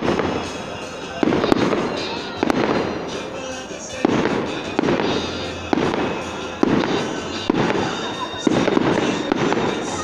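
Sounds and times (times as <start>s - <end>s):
fireworks bursting with bangs: 0.0s - 10.0s
rumbling echo: 0.0s - 10.0s.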